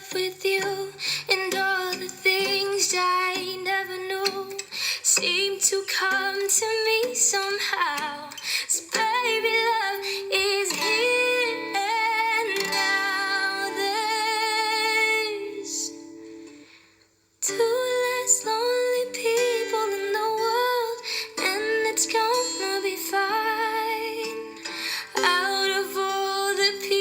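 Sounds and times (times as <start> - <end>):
guitar: 0.0 - 27.0.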